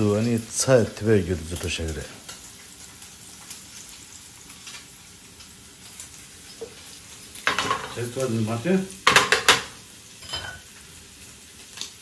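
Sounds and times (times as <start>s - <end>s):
bacon sizzling in a frying pan: 0.0s - 12.0s
sharp sizzle burst: 0.0s - 12.0s.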